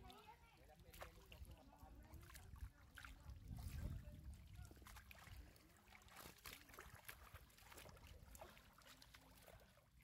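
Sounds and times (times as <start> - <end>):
small clicks and sloshes: 0.0 - 10.0
water splashing and trickling: 0.0 - 10.0.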